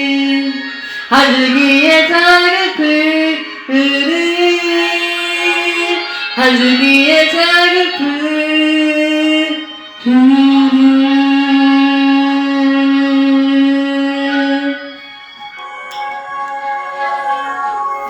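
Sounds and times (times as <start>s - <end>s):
musical accompaniment: 0.4s - 18.0s.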